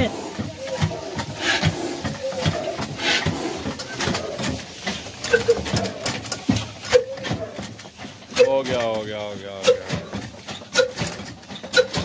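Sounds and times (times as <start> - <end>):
old engine knocking slowly: 0.0 - 12.0.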